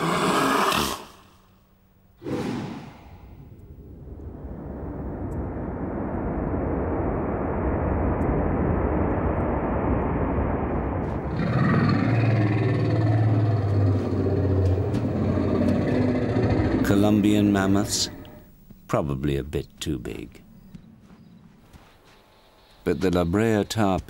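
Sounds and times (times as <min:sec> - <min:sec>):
low rumbling noise: 0:02.0 - 0:22.0.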